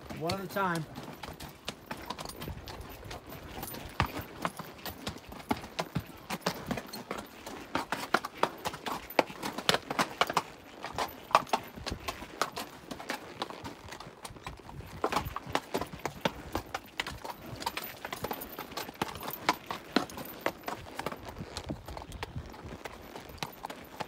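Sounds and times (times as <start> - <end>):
hooves clip-clopping on rock: 0.0 - 24.0.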